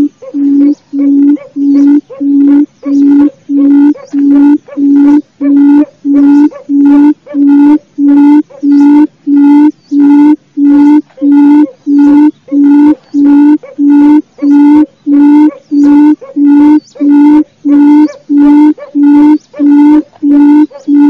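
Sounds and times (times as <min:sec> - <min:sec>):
quail call hooting notes: 0:00.0 - 0:21.0.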